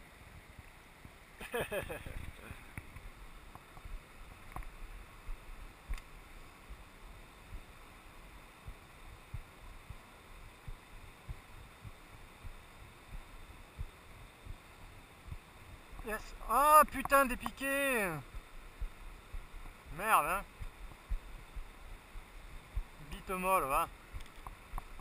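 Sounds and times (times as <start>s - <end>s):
river flowing over stones: 0.0s - 1.4s, 2.1s - 25.0s.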